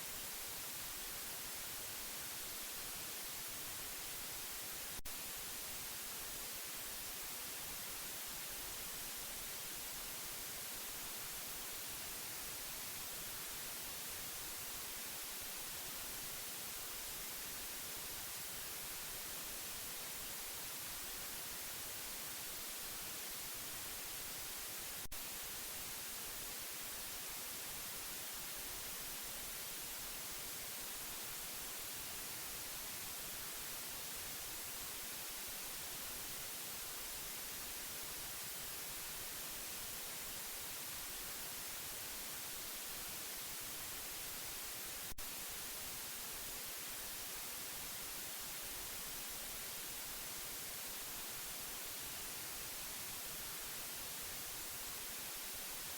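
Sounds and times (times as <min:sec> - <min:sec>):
white-noise hiss: 0:00.0 - 0:55.9.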